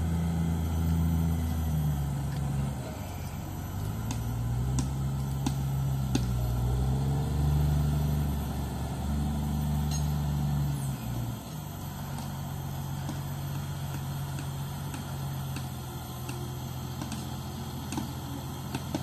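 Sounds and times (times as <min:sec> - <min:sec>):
diesel engine working: 0:00.0 - 0:19.0.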